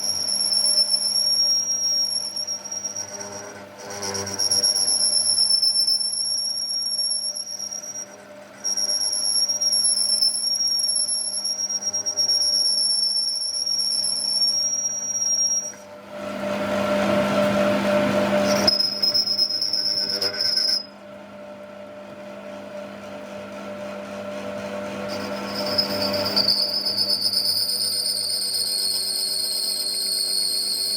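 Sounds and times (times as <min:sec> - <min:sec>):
metalworking machinery squeal: 0:00.0 - 0:15.9, 0:17.4 - 0:21.0, 0:24.1 - 0:30.9.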